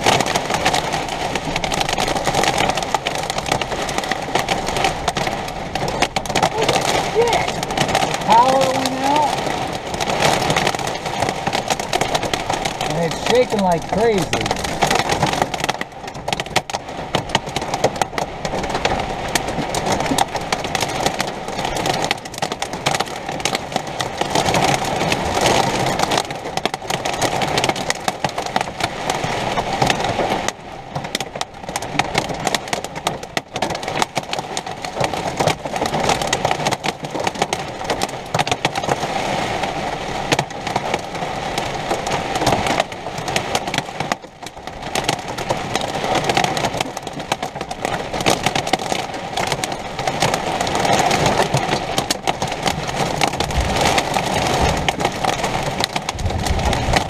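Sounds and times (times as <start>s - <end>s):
heavy rain beating on a roof: 0.0s - 57.0s.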